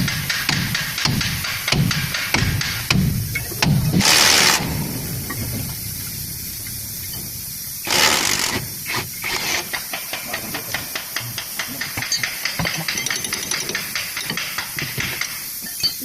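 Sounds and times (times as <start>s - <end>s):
compressed air hissing: 0.0s - 16.0s.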